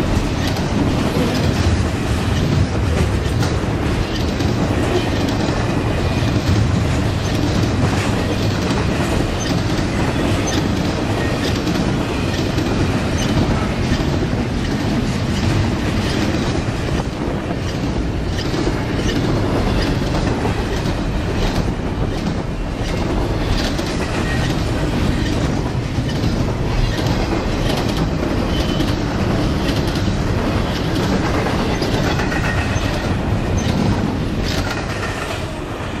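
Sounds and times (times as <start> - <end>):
wheels clicking over rail joints: 0.0 - 35.6
train wheels rumbling on rail: 0.0 - 36.0.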